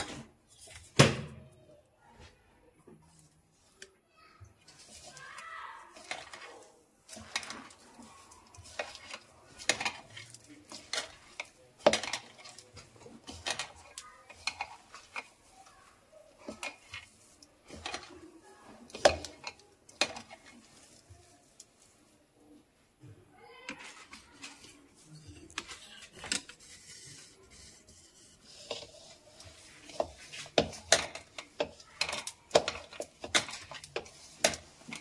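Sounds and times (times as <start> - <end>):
soft squishing: 1.7 - 35.0.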